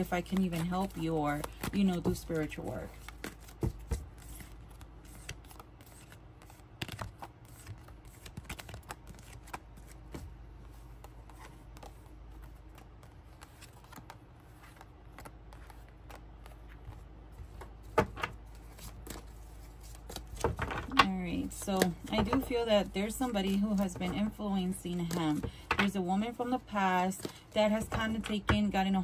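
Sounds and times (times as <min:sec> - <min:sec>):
cards shuffled and dealt: 0:00.0 - 0:29.0.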